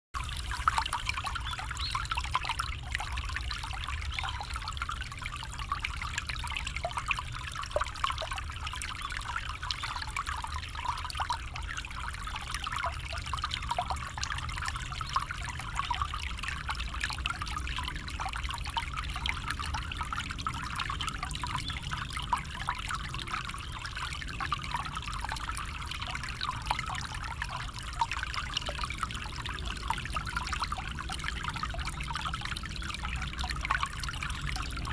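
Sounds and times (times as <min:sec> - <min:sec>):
stream trickling over stones: 0:00.2 - 0:34.9.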